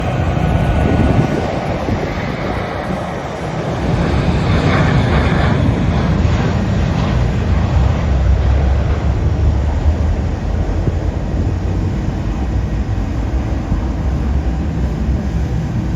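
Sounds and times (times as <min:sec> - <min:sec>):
jet engines rumbling: 0:00.0 - 0:15.9
wind buffeting microphone: 0:00.0 - 0:15.9.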